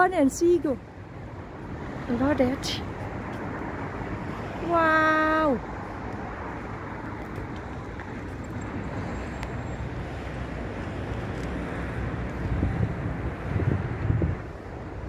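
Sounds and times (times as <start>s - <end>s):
road traffic: 0.0s - 15.0s
wind buffeting microphone: 0.0s - 15.0s.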